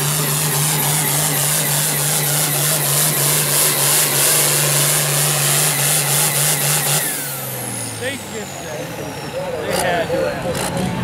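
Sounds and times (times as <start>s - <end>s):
tractor diesel engine at full load: 0.0s - 11.0s.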